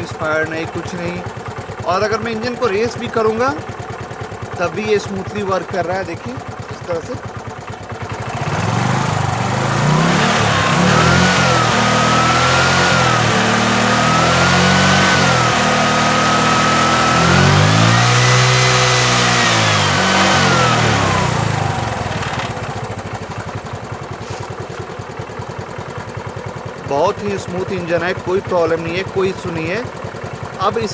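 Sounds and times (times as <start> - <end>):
scooter engine revving: 0.0 - 30.9.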